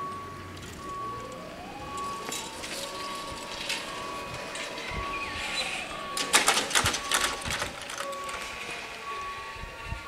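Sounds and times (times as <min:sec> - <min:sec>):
level crossing warning bell: 0:00.0 - 0:10.0.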